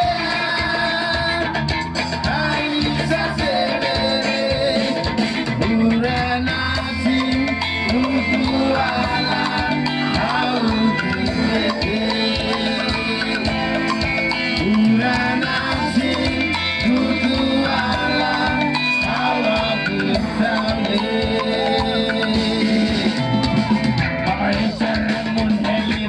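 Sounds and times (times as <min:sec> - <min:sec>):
latin drums and percussion: 0:00.0 - 0:26.0
person singing: 0:00.0 - 0:26.0.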